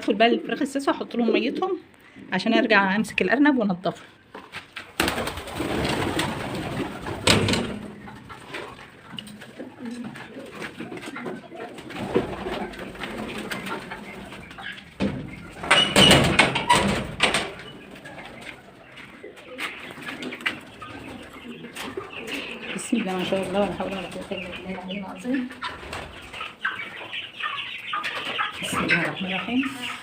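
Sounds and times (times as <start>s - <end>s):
pigeons cooing: 5.0s - 30.0s.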